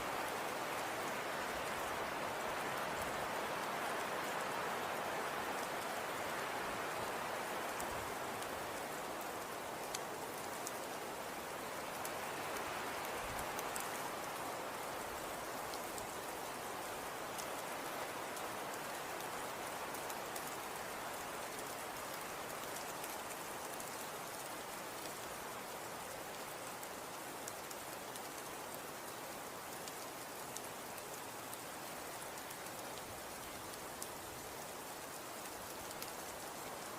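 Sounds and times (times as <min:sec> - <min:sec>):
faint ticks: 0:07.2 - 0:36.9.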